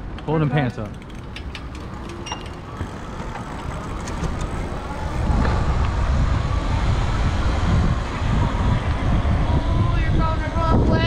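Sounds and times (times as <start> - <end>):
electric bike rumble: 0.0 - 11.0
wind buffeting microphone: 0.0 - 11.0.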